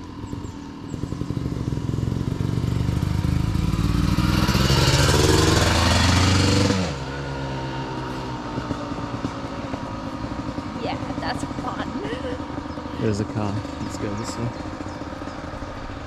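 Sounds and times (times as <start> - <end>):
motorcycle engine passing by: 0.0 - 16.0.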